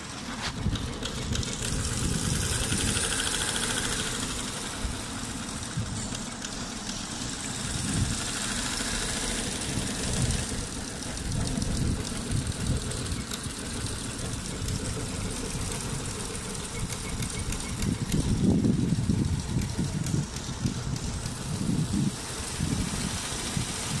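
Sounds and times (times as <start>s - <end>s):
embroidery machine clattering: 0.0s - 24.0s.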